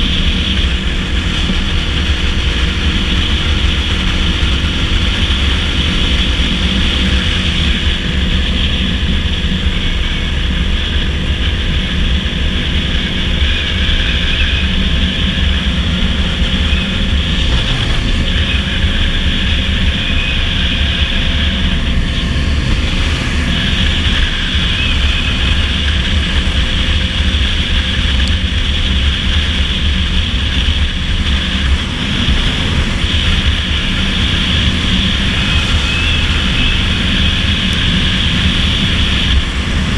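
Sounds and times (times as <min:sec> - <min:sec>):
dirt bike engine cruising: 0:00.0 - 0:39.9
wind rush on microphone: 0:00.0 - 0:39.9.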